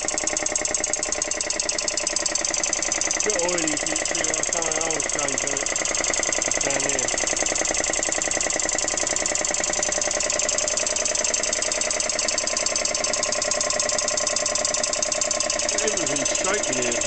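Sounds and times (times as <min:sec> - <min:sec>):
air compressor pulsing: 0:00.0 - 0:17.0.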